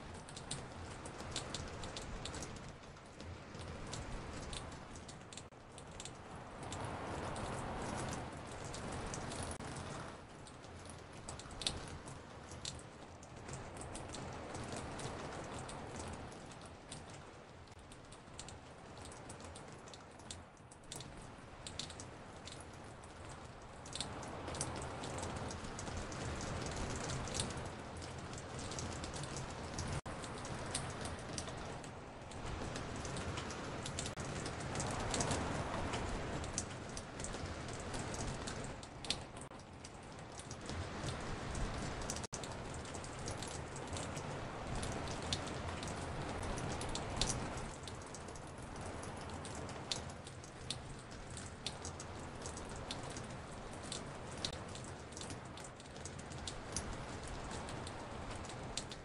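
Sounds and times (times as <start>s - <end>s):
raindrops dripping and ticking: 0.0s - 59.0s
steady rain hiss: 0.0s - 59.0s.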